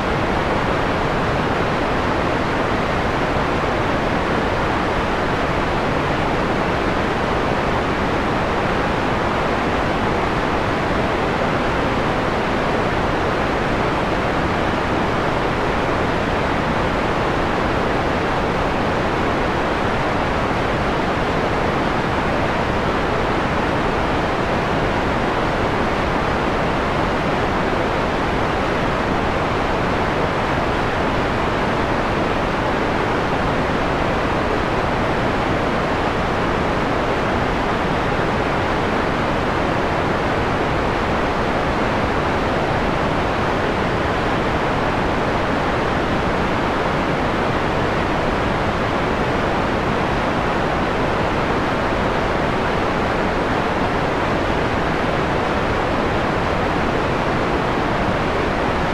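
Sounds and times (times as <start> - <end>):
mellow white noise hiss: 0.0 - 58.9.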